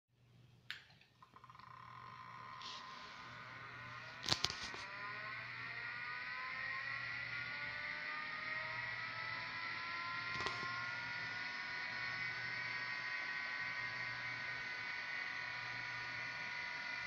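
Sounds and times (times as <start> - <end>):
hard disk drive whine: 1.3 - 17.0.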